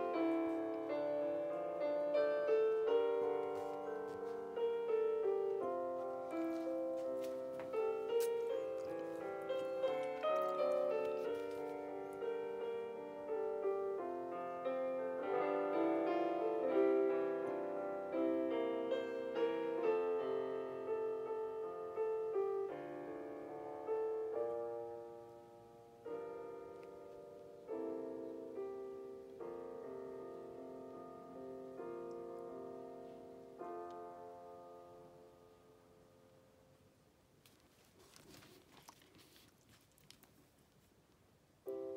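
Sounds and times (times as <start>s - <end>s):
gentle solo piano music: 0.0s - 36.9s, 41.6s - 41.9s.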